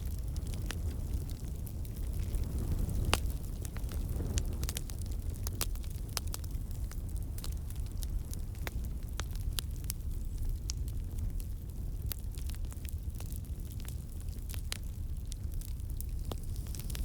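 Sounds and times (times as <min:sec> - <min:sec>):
burning wood crackling and popping: 0:00.0 - 0:17.0
campfire flames rumbling: 0:00.0 - 0:17.0.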